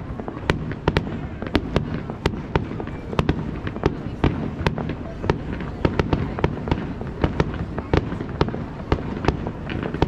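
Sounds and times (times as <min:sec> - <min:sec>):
continuous rumble: 0:00.0 - 0:10.0
fireworks bangs: 0:00.0 - 0:10.0.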